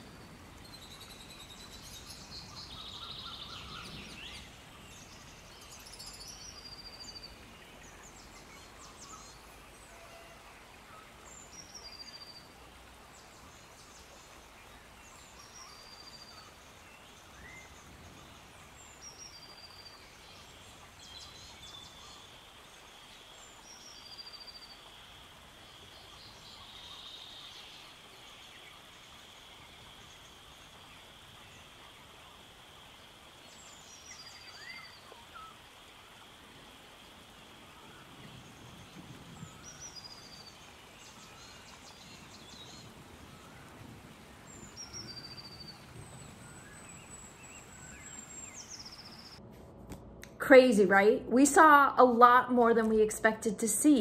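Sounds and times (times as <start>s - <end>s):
birds chirping: 0.0s - 49.4s
soft background hiss: 0.0s - 54.0s.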